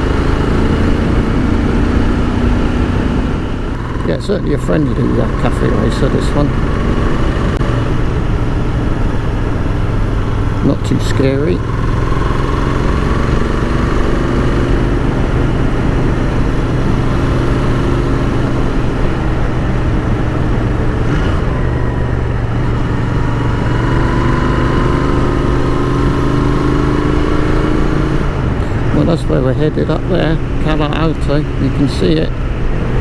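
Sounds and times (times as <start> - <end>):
motorcycle engine under way: 0.0 - 33.0.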